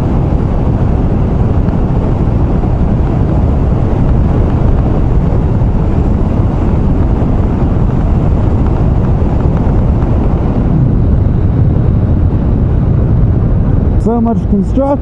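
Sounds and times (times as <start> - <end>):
motorcycle engine and tyre noise: 0.0 - 15.0
wind rushing over microphone: 0.0 - 15.0.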